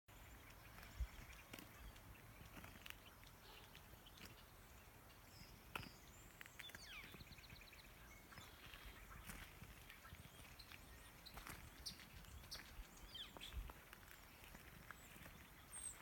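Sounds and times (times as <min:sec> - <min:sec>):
distant birds calling: 0:00.1 - 0:13.6
footsteps clicking softly: 0:00.4 - 0:16.0.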